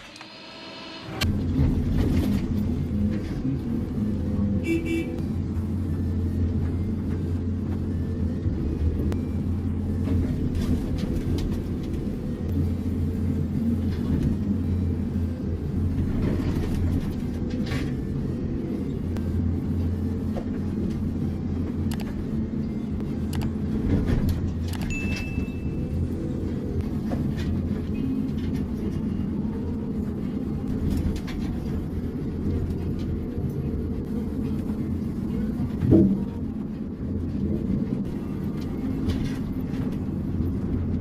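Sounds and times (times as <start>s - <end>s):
heavy engine rumbling: 1.0s - 41.0s.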